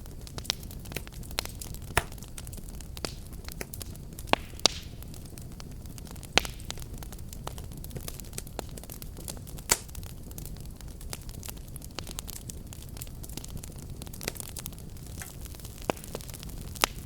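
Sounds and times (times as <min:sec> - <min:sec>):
fire crackling: 0:00.0 - 0:17.0
loud sharp pops of fire: 0:00.0 - 0:17.0
rumble of flames: 0:00.0 - 0:17.0.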